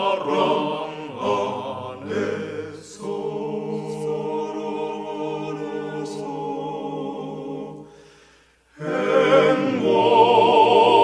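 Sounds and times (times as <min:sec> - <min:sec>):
choir singing a hymn: 0:00.0 - 0:08.0, 0:08.7 - 0:11.0.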